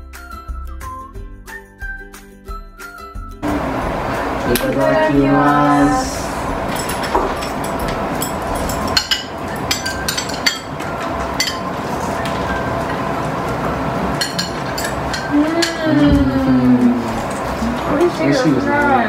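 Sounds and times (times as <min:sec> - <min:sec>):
steady background hiss: 0:03.4 - 0:18.8.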